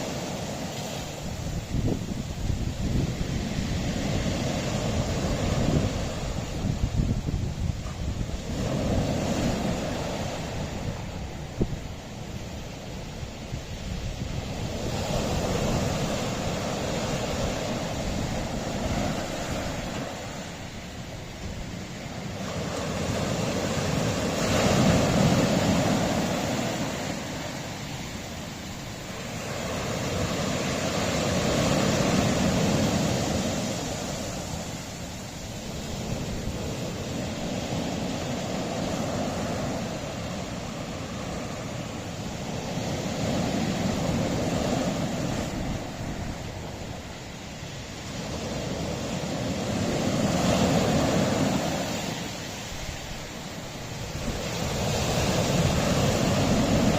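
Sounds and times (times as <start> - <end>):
waves washing onto rocky shore: 0.0 - 56.9.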